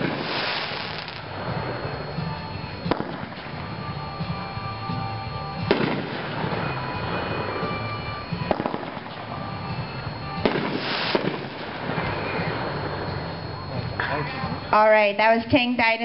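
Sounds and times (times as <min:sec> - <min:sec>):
hissing burst: 0:00.0 - 0:14.7
firework crackling: 0:00.0 - 0:15.8
firework reports: 0:00.0 - 0:16.0.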